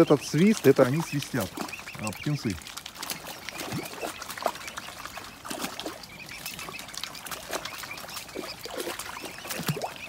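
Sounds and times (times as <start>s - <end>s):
bills dabbling and splashing in water: 0.0s - 10.0s
cygnets peeping: 0.0s - 10.0s.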